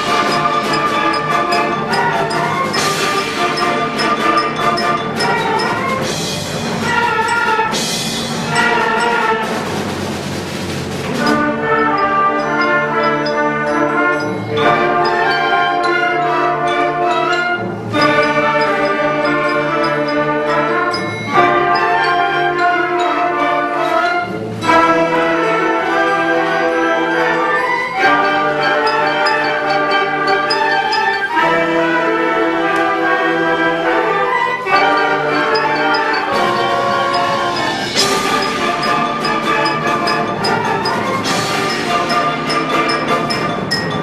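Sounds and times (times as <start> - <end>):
concert band playing brass chords: 0.0 - 44.0.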